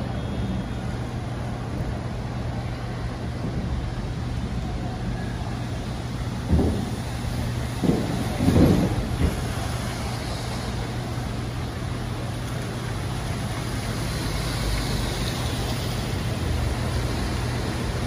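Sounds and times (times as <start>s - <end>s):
light rain: 0.0s - 18.0s
tyres hissing on wet pavement: 0.0s - 18.0s.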